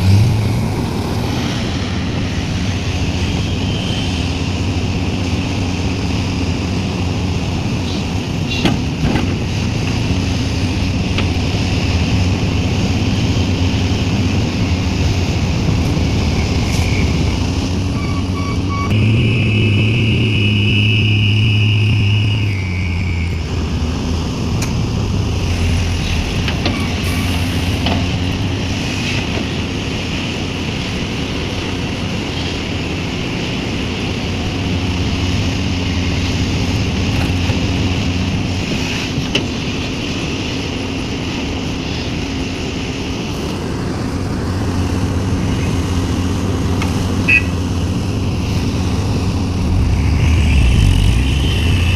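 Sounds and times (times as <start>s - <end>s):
excavator diesel engine running: 0.0s - 51.9s
high steady engine whine: 0.0s - 51.9s.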